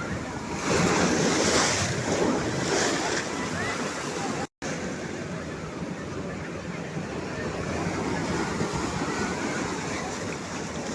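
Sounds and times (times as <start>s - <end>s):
ocean surf washing on beach: 0.0s - 10.9s.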